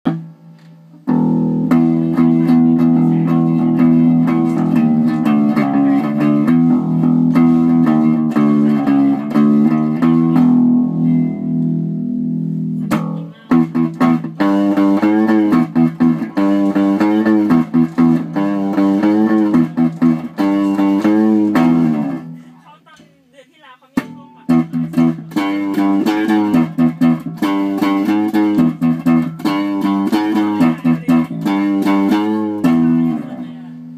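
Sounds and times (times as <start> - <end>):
electric bass plucked notes: 0.1 - 22.6, 24.0 - 33.9.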